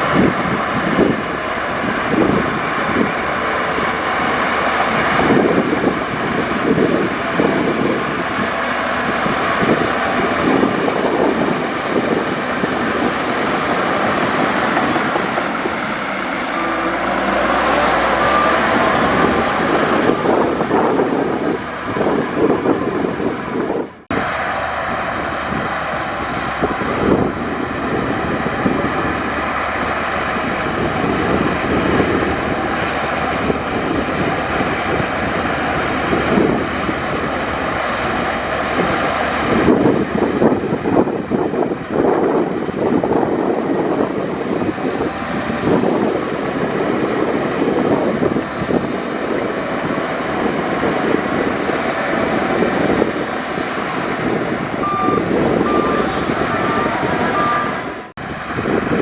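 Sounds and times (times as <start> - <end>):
heavy diesel machinery engine: 0.0 - 59.0.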